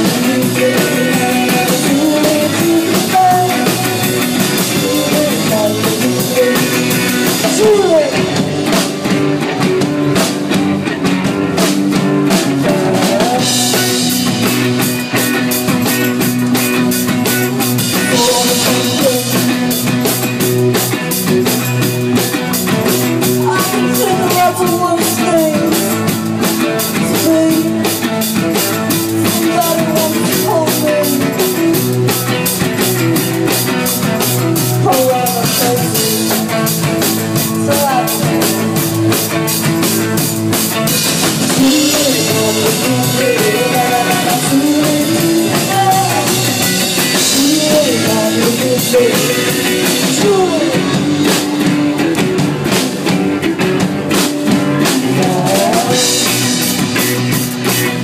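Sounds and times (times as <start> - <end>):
drum kit beat: 0.0 - 58.0
guitars and bass: 0.0 - 58.0.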